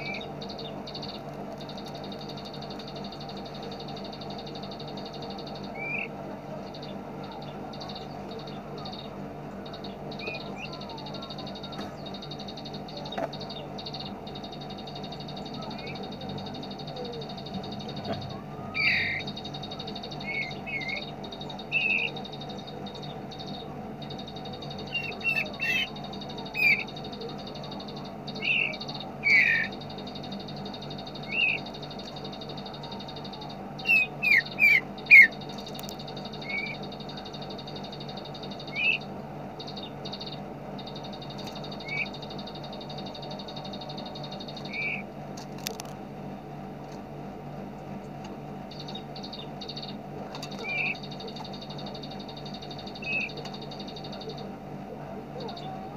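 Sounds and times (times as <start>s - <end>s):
high whine: 0.0s - 55.9s
songbird chirping: 0.0s - 55.9s
steady low hum: 0.0s - 55.9s.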